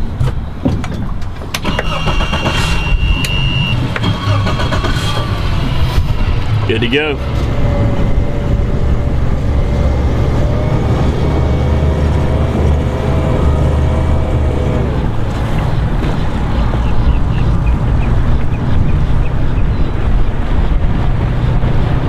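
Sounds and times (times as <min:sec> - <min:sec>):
outboard motors rumbling: 0:00.0 - 0:22.0.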